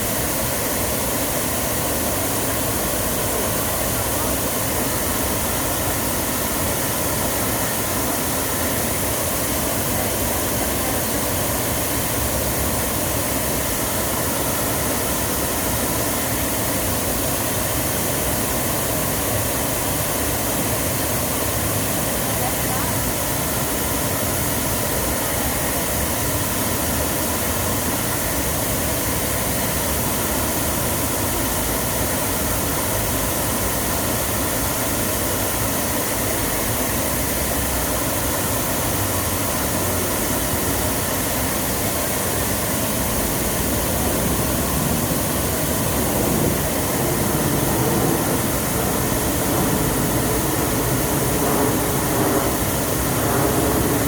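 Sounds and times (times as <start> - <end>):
waterfall pouring and splashing: 0.0 - 54.0.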